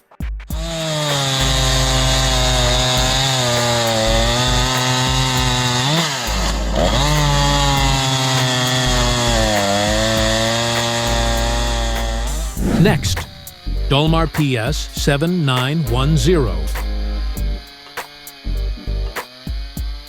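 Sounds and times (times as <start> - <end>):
chainsaw cutting wood: 0.6 - 14.6, 15.3 - 20.0.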